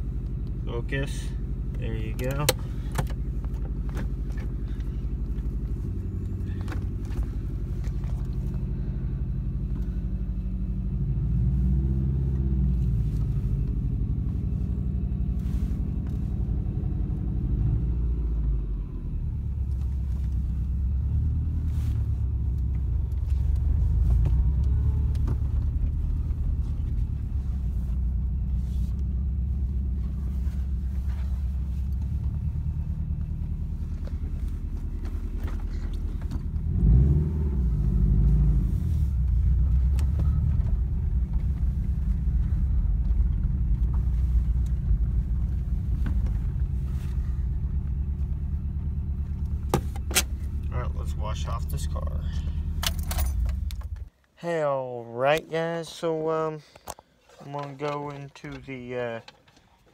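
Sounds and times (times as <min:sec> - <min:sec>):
car engine from inside cabin: 0:00.0 - 0:54.4, 0:55.0 - 0:59.9.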